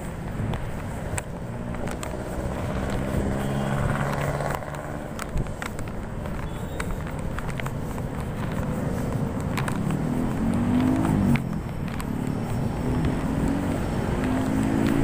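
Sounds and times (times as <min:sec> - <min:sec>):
low traffic rumble: 0:00.0 - 0:15.0
vehicle engine passing: 0:00.8 - 0:15.0.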